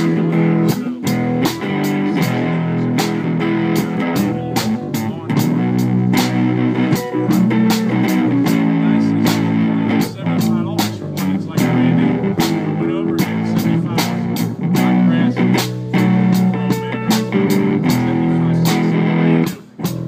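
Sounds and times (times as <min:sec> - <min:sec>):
drum kit beat: 0:00.0 - 0:20.0
electric guitar: 0:00.0 - 0:20.0.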